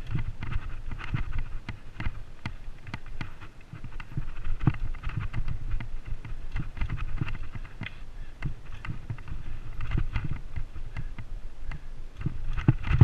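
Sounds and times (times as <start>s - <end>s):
mountain bike rattling over rocks: 0.0s - 13.0s
wind rumble on microphone: 0.0s - 13.0s.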